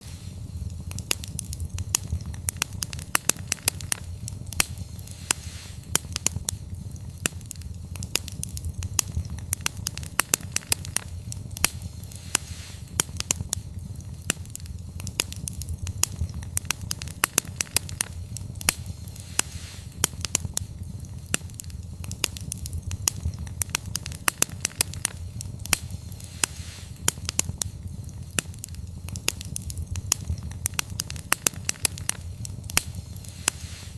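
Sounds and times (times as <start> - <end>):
low rumble of flames: 0.0 - 33.9
wood fire crackling and popping: 0.0 - 33.9.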